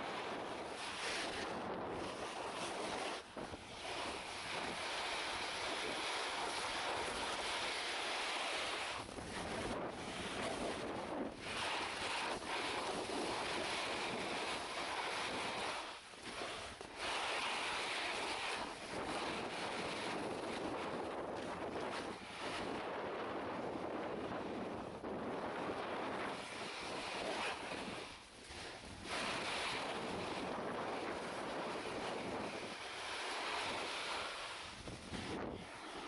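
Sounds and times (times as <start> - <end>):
snowboard sliding over snow: 0.0 - 36.0
wind noise on microphone: 0.0 - 36.0.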